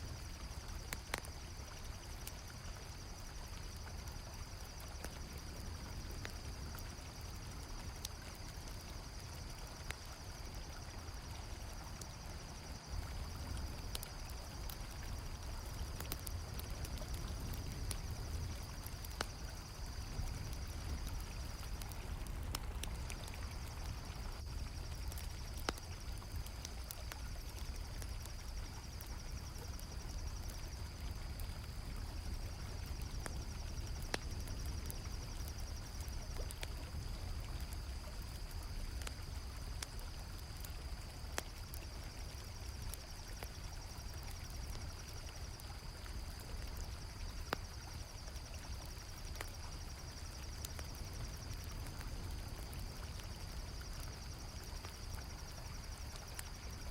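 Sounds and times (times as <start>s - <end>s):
campfire crackling and popping: 0.0s - 56.9s
crickets chirping: 0.0s - 56.9s.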